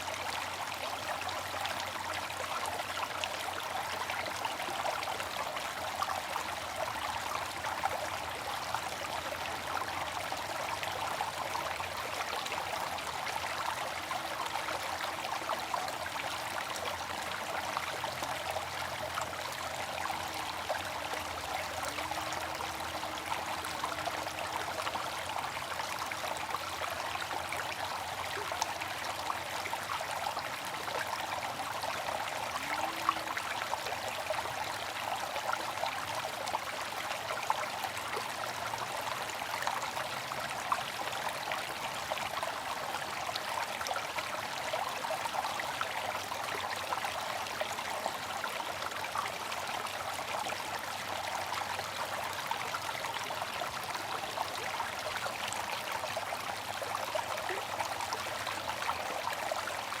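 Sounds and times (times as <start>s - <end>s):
water fountain trickling: 0.0s - 60.0s.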